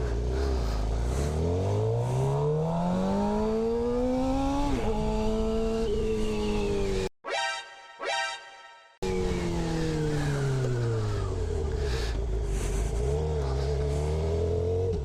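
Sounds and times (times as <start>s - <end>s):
motorcycle engine accelerating: 0.0s - 7.1s, 9.0s - 15.0s.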